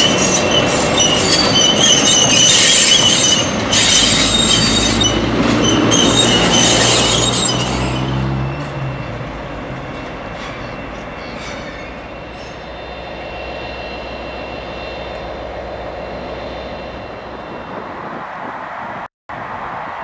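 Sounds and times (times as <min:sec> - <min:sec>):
high-pitched wheel squeal: 0:00.0 - 0:18.3
diesel locomotive running: 0:00.0 - 0:18.4.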